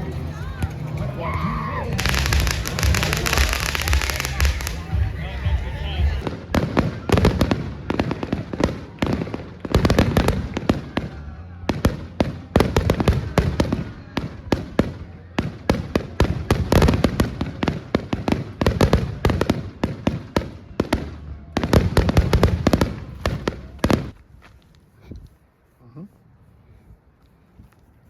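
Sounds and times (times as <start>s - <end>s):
fireworks bangs and crackles: 0.0s - 24.2s.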